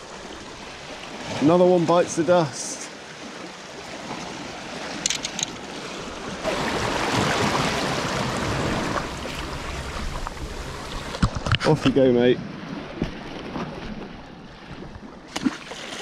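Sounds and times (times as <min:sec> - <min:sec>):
sea water washing in shallows: 0:00.0 - 0:16.0.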